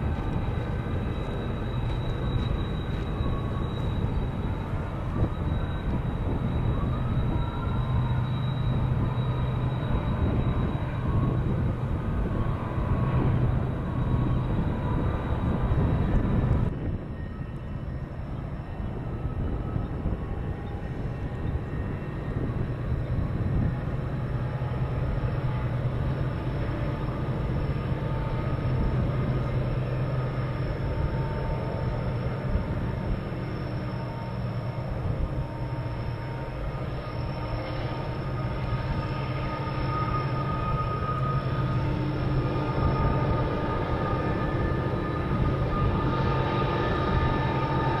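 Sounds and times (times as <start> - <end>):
faint steady tones: 0.0 - 48.0.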